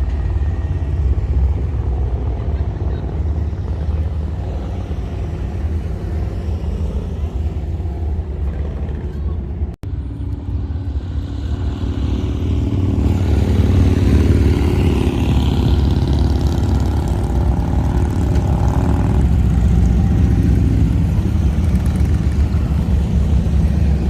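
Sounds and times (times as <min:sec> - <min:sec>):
road and wind noise: 0:00.0 - 0:24.0
vehicle engine drone: 0:00.0 - 0:24.0.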